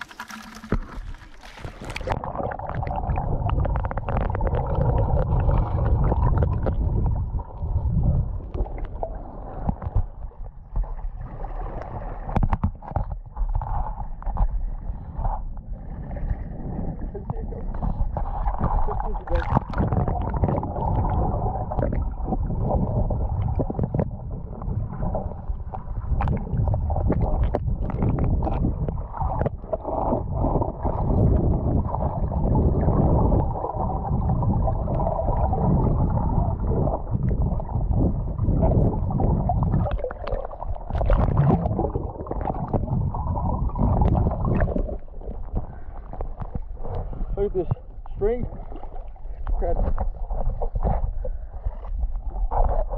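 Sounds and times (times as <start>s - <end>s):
underwater stream rushing: 0.0s - 52.9s.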